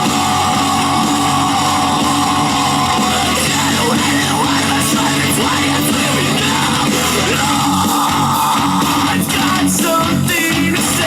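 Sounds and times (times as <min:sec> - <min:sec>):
rock song through speaker: 0:00.0 - 0:11.0.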